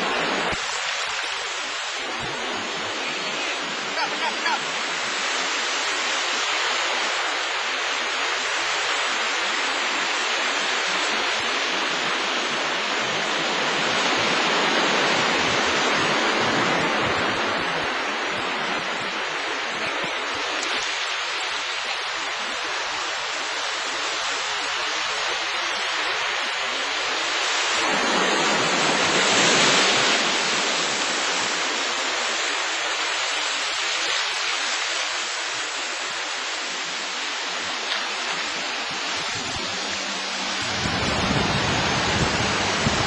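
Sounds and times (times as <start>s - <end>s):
surf washing onto beach: 0.0s - 43.0s.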